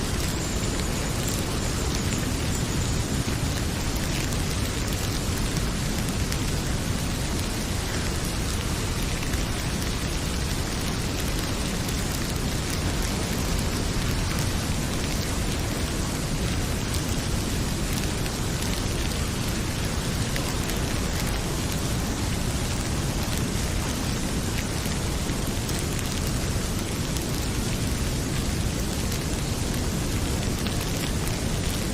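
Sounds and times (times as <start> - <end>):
heavy rain pouring: 0.0 - 31.9
wood fire crackling: 0.0 - 31.9.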